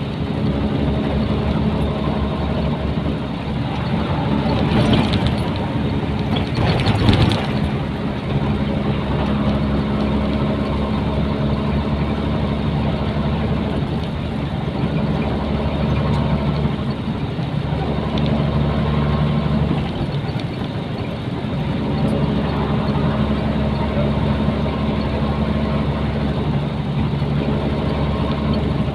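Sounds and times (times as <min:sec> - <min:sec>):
diesel truck engine running: 0:00.0 - 0:28.9.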